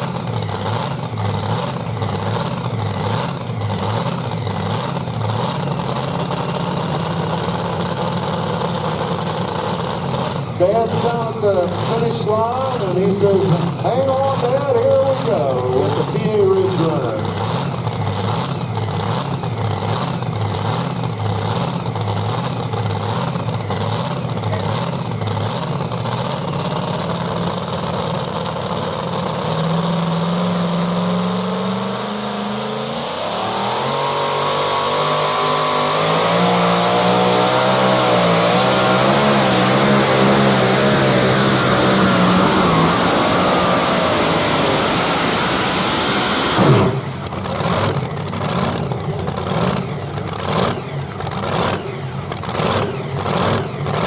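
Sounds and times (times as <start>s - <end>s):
supercharged tractor engine: 0.0s - 54.0s.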